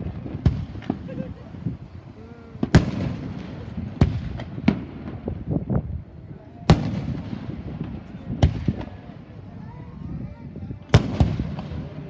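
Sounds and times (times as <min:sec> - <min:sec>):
fireworks popping: 0:00.0 - 0:06.0, 0:06.6 - 0:10.2, 0:10.8 - 0:12.0
fireworks booming: 0:00.0 - 0:10.2, 0:10.8 - 0:12.0.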